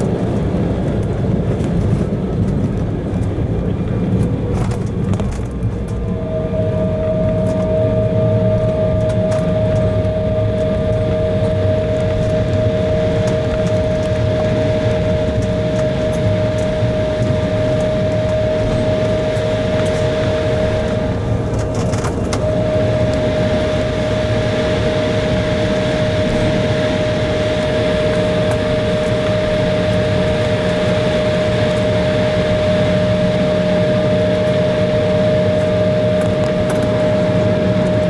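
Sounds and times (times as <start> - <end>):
jet engine cabin rumble: 0.0 - 38.0
two-note whine: 5.4 - 38.0.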